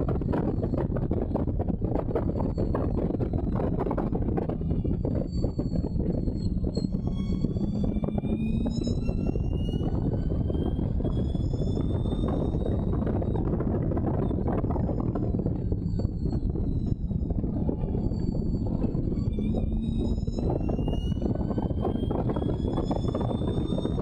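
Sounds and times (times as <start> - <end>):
racing engine at full throttle: 0.0 - 24.0
wind buffeting: 0.0 - 24.0.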